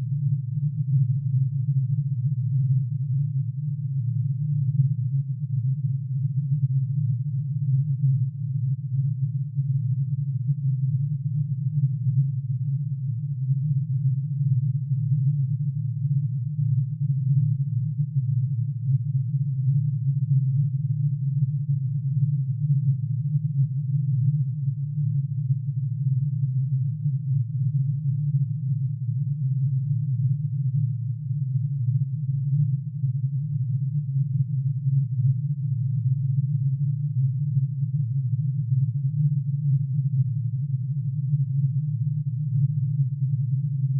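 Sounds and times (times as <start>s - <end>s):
dense sine tone drone: 0.0s - 43.9s.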